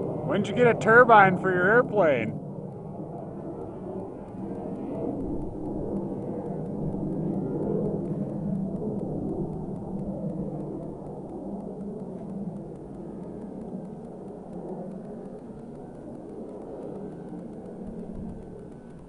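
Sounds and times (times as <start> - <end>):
model airplane engine droning: 0.0 - 19.0.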